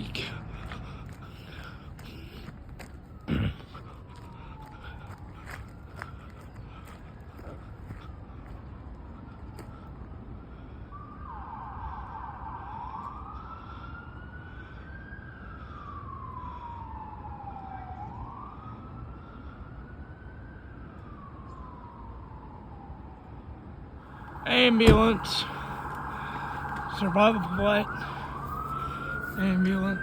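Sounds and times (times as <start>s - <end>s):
distant emergency vehicle siren: 0.0s - 30.0s.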